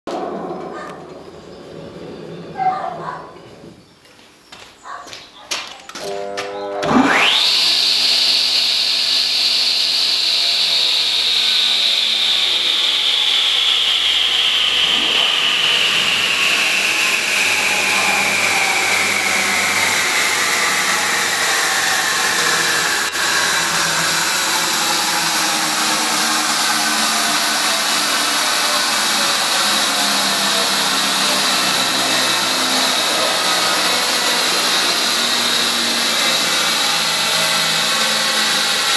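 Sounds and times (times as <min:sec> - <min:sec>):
table saw whine: 0:06.0 - 0:38.9.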